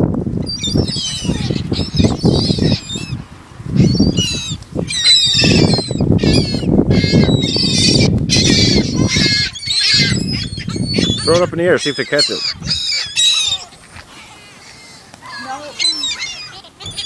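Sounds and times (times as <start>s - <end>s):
flock of birds calling: 0.4s - 17.0s.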